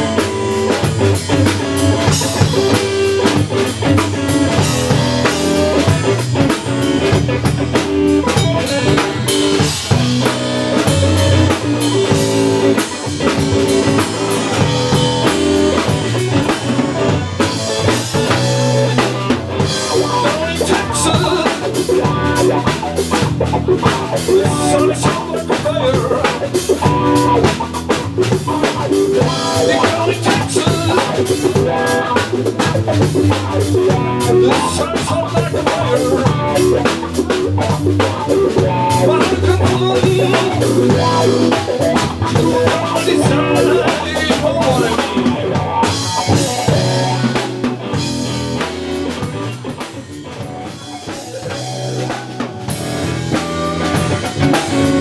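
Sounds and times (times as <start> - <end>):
blues-rock band playing: 0.0 - 55.0
drum kit beat: 0.0 - 55.0
electric guitar: 0.0 - 55.0.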